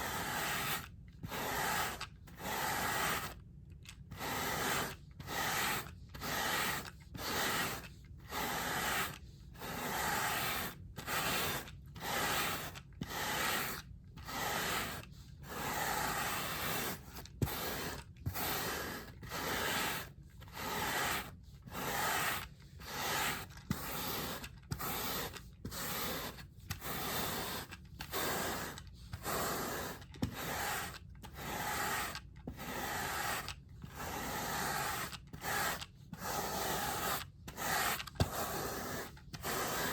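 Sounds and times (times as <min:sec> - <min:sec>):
brush scrubbing a rug: 0:00.0 - 0:03.4, 0:04.1 - 0:39.9.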